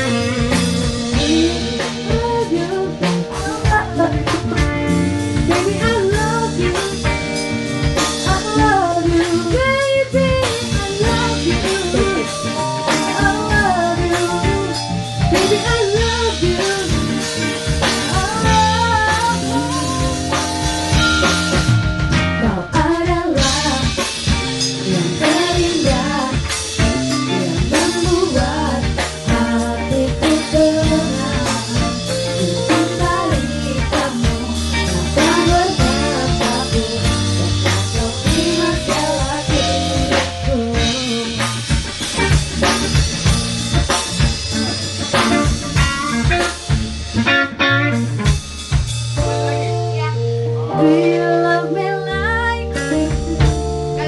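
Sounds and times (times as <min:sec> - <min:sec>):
woman singing into a microphone: 0:00.0 - 0:20.7, 0:22.4 - 0:41.8, 0:50.6 - 0:54.0
instrumental band with drums: 0:00.0 - 0:54.0.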